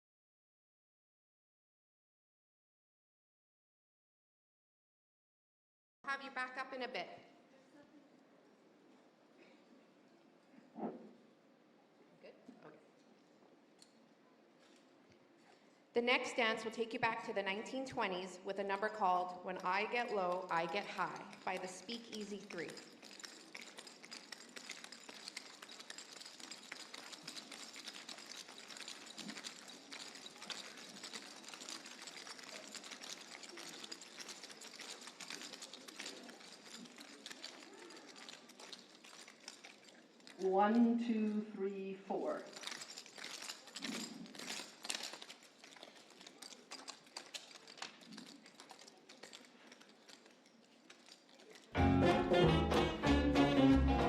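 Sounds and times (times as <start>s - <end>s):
quiet theatre hiss: 6.1s - 51.8s.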